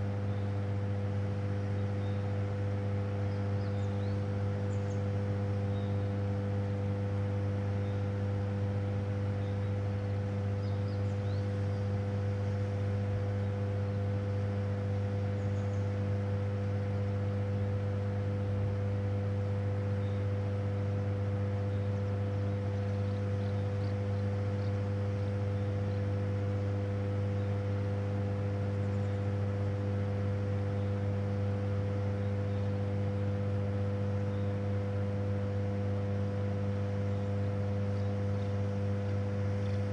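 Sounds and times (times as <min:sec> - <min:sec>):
machinery electrical hum: 0:00.0 - 0:39.9.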